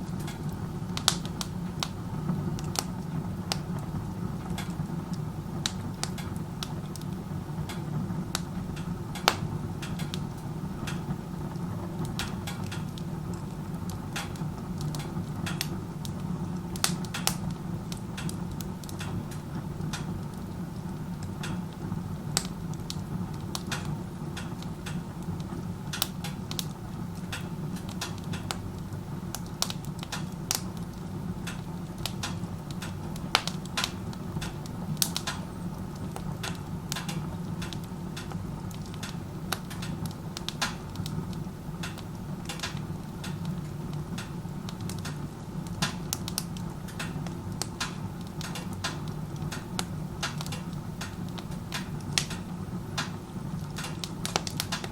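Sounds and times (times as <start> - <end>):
logs crackling and popping: 0.0 - 54.9
low rumble of chimney draft: 0.0 - 54.9.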